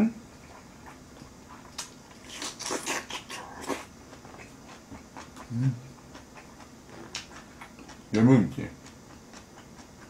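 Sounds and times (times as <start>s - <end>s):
wet chewing: 0.4s - 10.0s.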